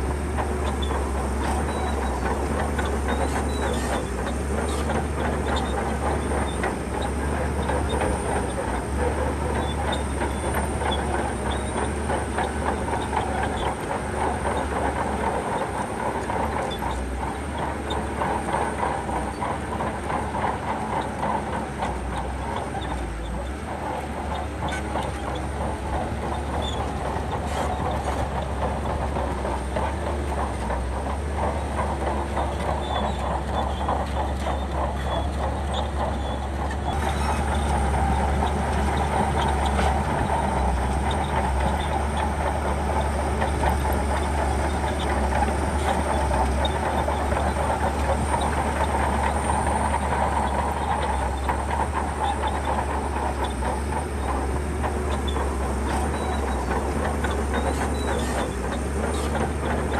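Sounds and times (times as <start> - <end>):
diesel engine running: 0.0 - 59.9
steel tracks clattering: 0.0 - 59.9.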